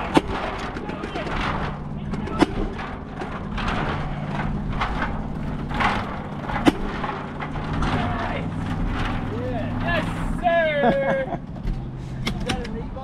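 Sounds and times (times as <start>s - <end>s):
bicycle rumble: 0.0s - 13.0s
steady low hum: 0.0s - 13.0s.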